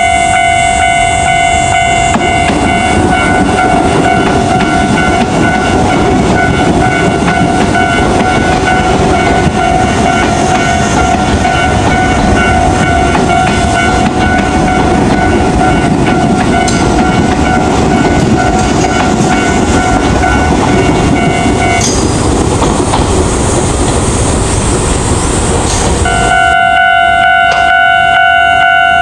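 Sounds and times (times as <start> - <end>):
crossing warning bell ringing: 0.0 - 22.2, 25.7 - 29.0
train wheels rumbling: 0.0 - 29.0.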